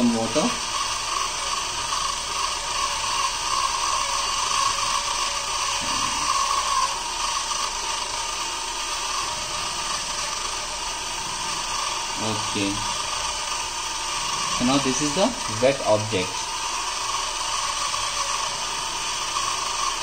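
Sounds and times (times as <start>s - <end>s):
small motors whining: 0.0s - 20.0s.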